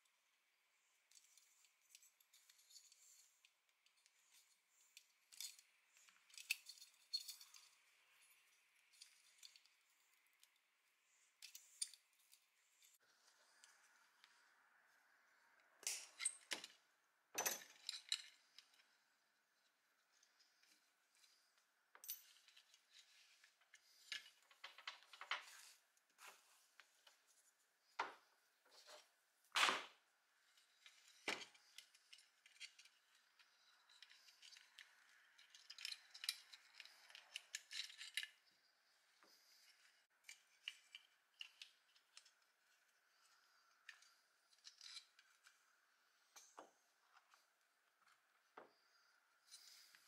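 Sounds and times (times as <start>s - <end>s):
faint metallic clicks and scrapes: 0.0s - 29.1s, 30.3s - 50.0s.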